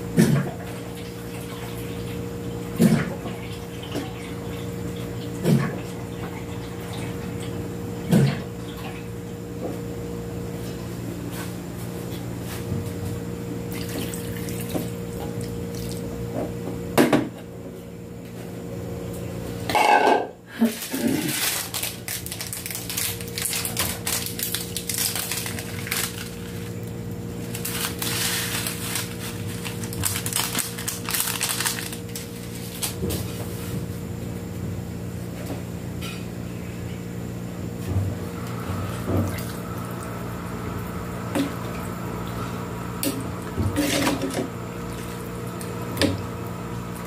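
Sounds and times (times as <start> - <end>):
gas burner hum: 0.0 - 47.0.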